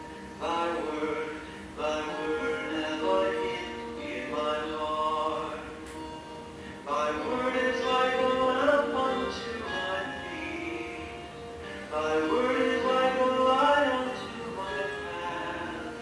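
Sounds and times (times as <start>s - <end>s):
man singing slow song: 0.4s - 16.0s.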